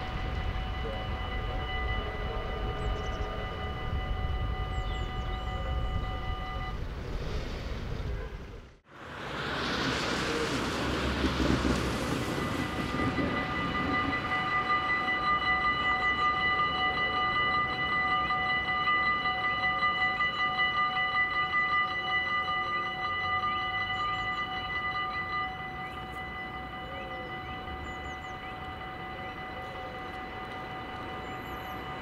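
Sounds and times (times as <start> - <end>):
level-crossing warning bell ringing: 0.0 - 6.8, 10.3 - 32.0.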